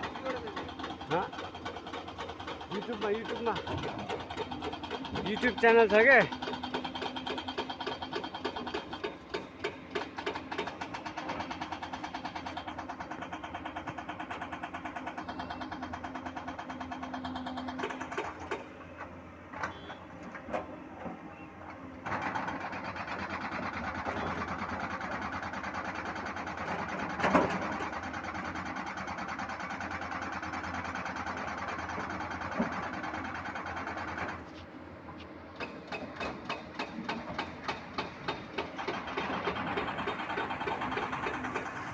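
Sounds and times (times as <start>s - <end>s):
construction machine engine running: 0.0s - 41.9s.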